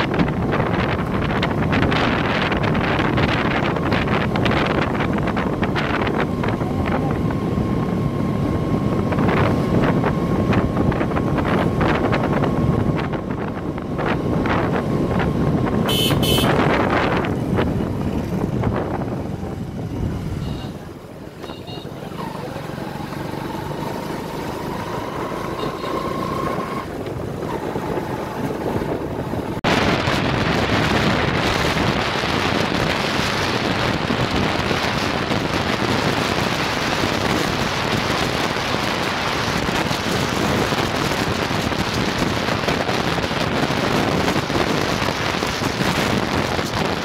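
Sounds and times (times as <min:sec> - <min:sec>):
road traffic noise: 0:00.0 - 0:47.0
wind rushing on microphone: 0:00.0 - 0:47.0.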